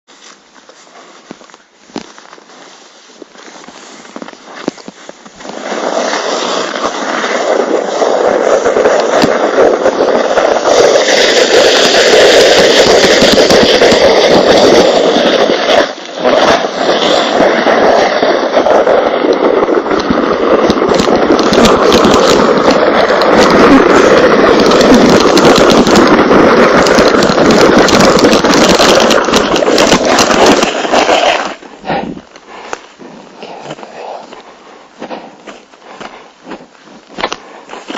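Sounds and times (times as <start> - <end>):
plastic sled scraping over snow: 0.1 - 37.9.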